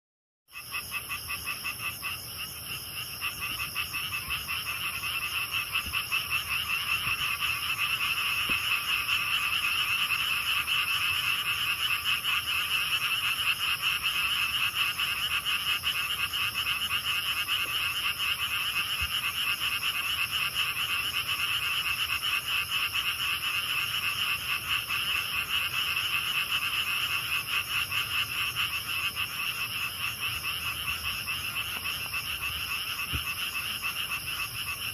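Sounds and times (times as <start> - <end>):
frogs trilling: 0.5 - 34.9.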